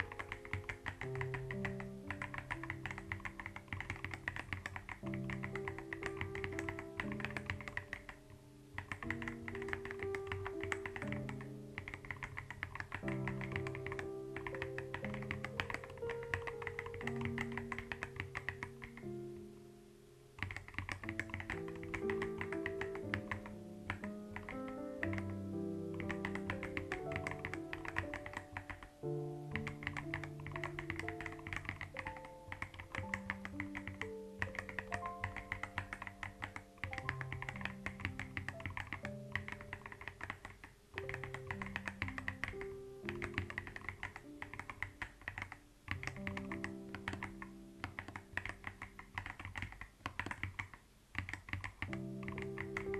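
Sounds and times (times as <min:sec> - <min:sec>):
keyboard typing: 0:00.0 - 0:19.4, 0:20.4 - 0:52.9
soft slow background music: 0:00.0 - 0:49.8, 0:51.7 - 0:52.9.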